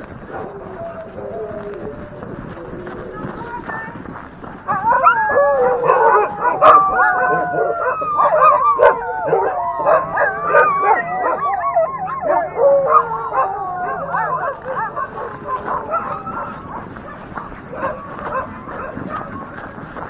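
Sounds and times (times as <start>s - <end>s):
dogs howling yipping and barking: 0.2s - 3.3s, 4.7s - 19.8s.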